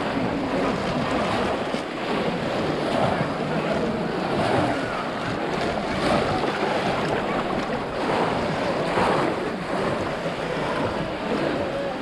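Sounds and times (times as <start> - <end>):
people wading through water: 0.0 - 12.0.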